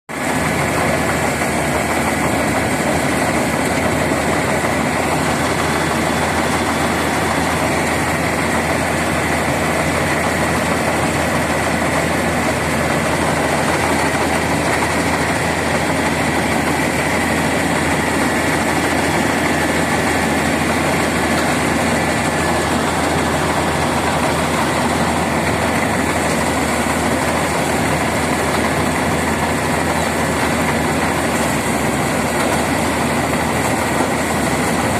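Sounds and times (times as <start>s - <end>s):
combine harvester engine drone: 0.1s - 34.9s.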